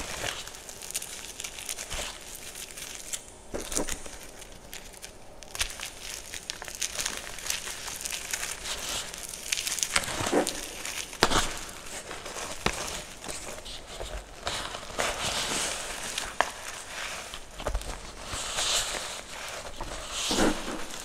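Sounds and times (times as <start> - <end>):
chalk crunching by hand: 0.0 - 21.0.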